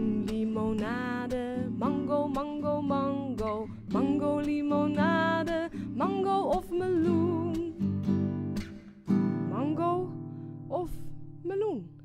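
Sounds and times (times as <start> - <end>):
woman singing: 0.0 - 8.0, 9.4 - 11.9
strummed acoustic guitar: 0.0 - 11.6.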